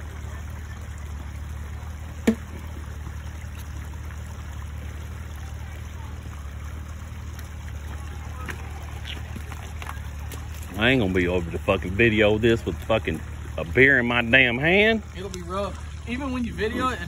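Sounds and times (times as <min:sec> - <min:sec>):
utility vehicle engines idling: 0:00.0 - 0:17.0.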